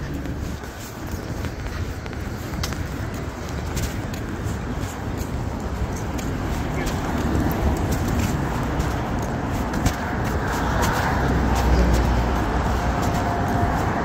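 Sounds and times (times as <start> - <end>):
low traffic rumble: 0.0 - 14.0
cars driving past: 2.2 - 14.0.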